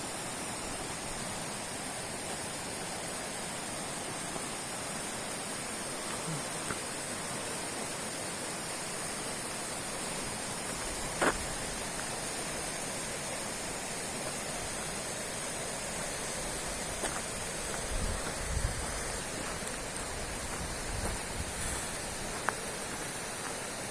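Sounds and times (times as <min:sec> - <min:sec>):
fast-flowing river rushing: 0:00.0 - 0:23.9.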